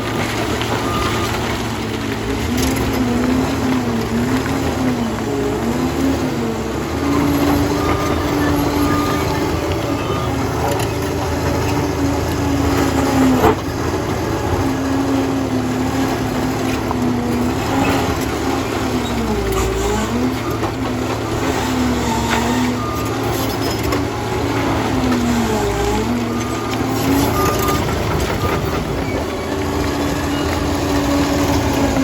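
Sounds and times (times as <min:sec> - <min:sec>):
dozer diesel engine under load: 0:00.0 - 0:32.0.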